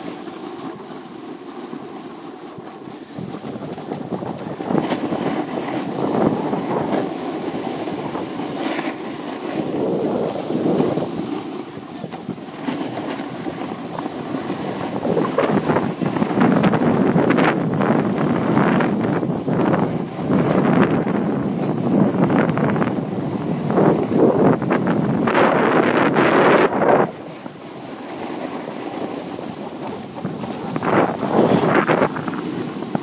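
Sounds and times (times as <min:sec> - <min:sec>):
wind on microphone: 0:02.5 - 0:33.0.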